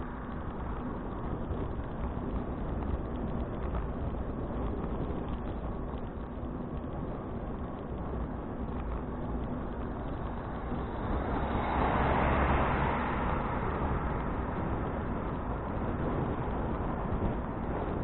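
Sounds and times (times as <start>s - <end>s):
bicycle riding noise: 0.0s - 18.0s
wind noise: 0.0s - 18.0s.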